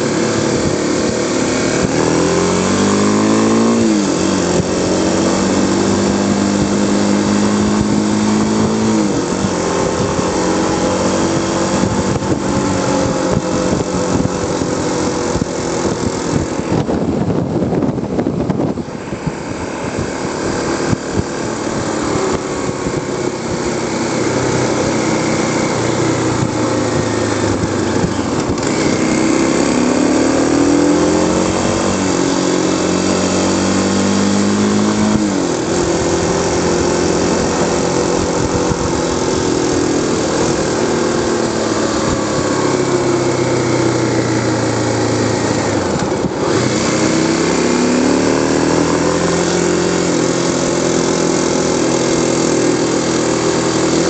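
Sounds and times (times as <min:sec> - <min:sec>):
motorcycle engine running: 0:00.0 - 0:54.0
wind rushing at microphone: 0:00.0 - 0:54.0.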